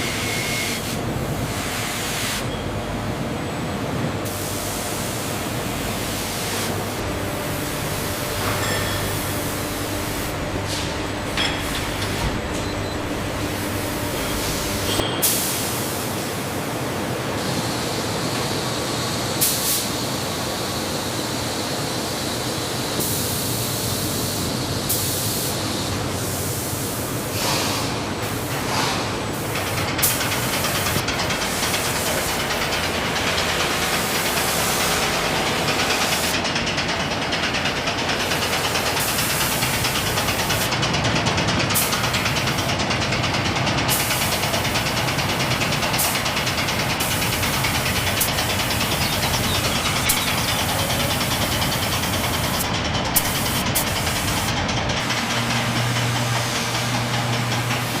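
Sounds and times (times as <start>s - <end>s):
machinery noise with hiss: 0.0s - 58.0s.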